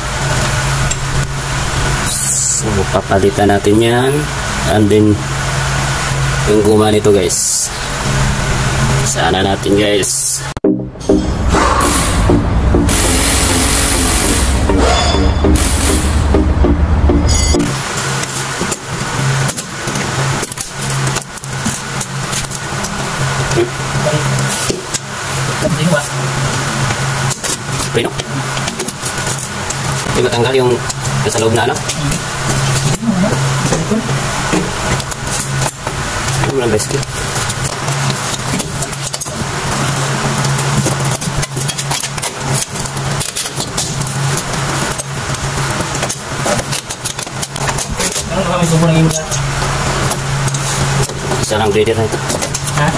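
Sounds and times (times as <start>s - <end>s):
noisy background: 0.0s - 52.9s
vehicle engine humming: 0.0s - 52.9s.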